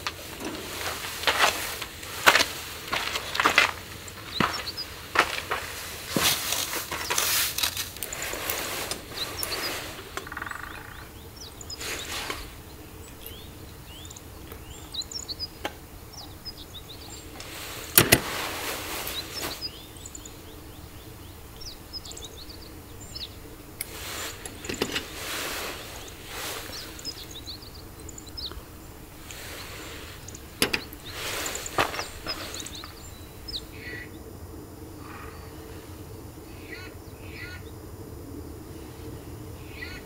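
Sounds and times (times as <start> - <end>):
rustling and handling noise: 0.0 - 14.9, 15.6 - 22.7, 23.5 - 33.7
small birds chirping: 0.0 - 40.0.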